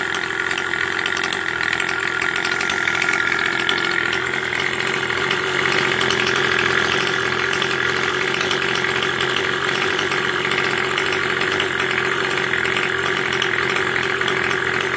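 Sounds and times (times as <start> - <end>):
small engine idling: 0.0 - 14.9.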